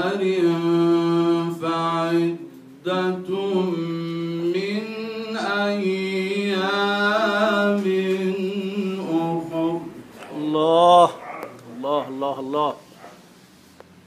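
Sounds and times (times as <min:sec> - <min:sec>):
man chanting melodically: 0:00.0 - 0:12.9.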